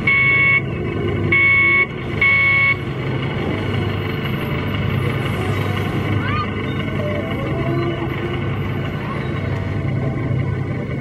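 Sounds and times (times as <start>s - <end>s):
miniature ride train rumbling: 0.0s - 11.0s.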